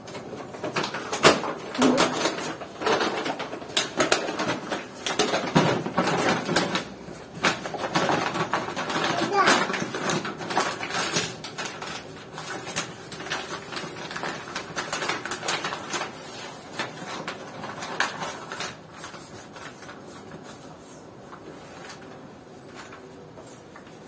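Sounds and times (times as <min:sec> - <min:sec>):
bag crinkling and rustling: 0:00.2 - 0:24.0.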